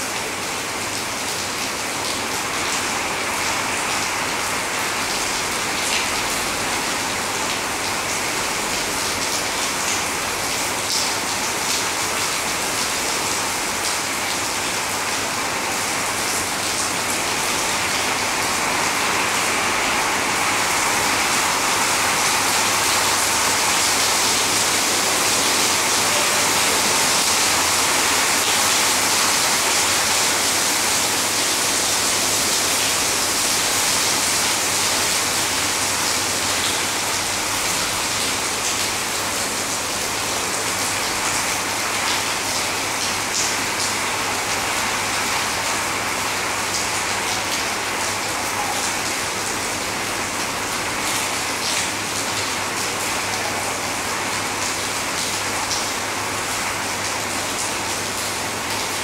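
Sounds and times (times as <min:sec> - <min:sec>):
heavy rain splashing into puddles: 0:00.0 - 0:59.0.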